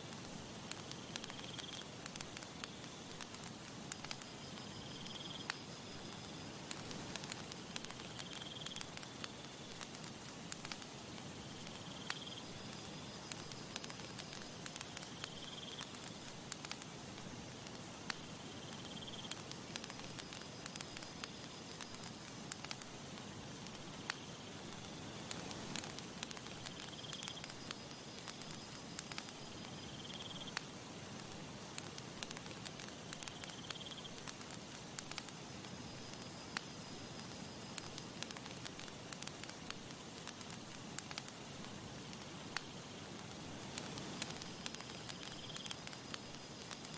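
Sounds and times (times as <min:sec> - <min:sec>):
breeze hissing: 0:00.0 - 0:46.9
campfire crackling and popping: 0:00.0 - 0:46.9.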